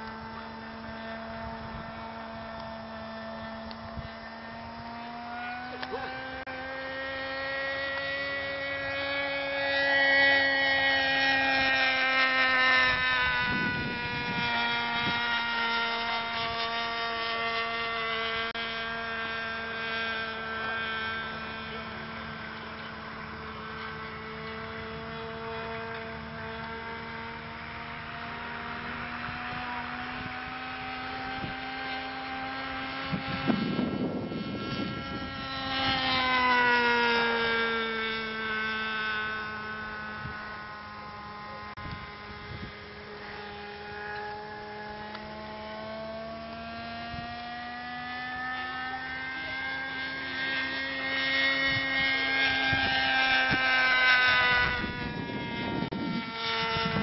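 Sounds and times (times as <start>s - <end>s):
model airplane propeller engine droning: 0.0s - 57.0s.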